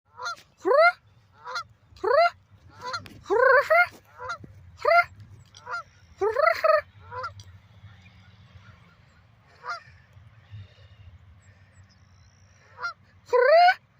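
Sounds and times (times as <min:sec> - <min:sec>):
geese honking: 0:00.1 - 0:13.8.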